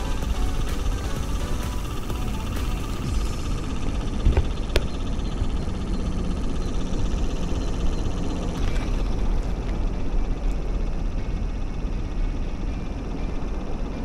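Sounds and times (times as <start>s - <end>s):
faint rapid high ticking: 0.0s - 14.0s.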